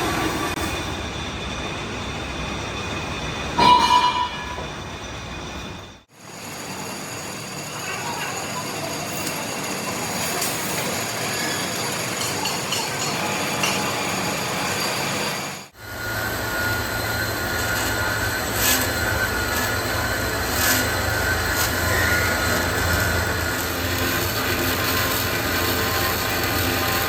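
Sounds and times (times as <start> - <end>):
workshop machinery humming: 0.0 - 27.0.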